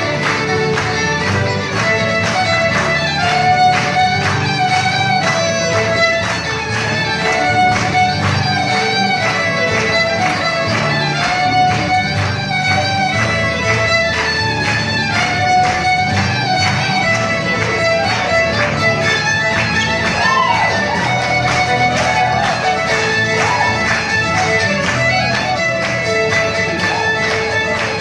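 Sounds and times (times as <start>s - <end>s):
acoustic guitars strumming: 0.0s - 28.0s
fiddles playing lively tune: 0.0s - 28.0s.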